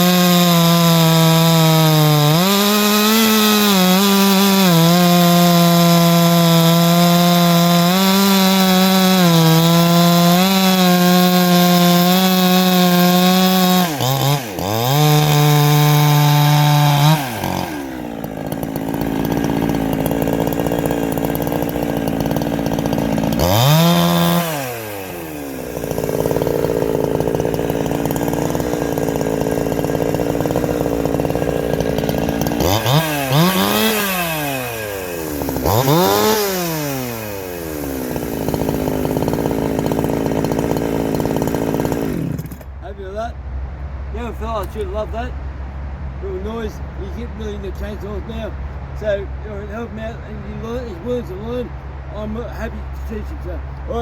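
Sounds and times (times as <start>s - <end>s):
chainsaw revving and idling: 0.0s - 43.3s, 44.2s - 45.4s, 46.2s - 54.0s.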